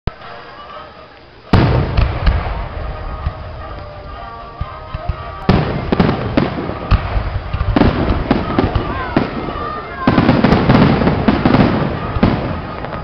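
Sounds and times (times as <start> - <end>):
fireworks bursting: 0.1 - 13.0
fireworks crackling: 0.1 - 13.0
loud boom: 1.5 - 13.0.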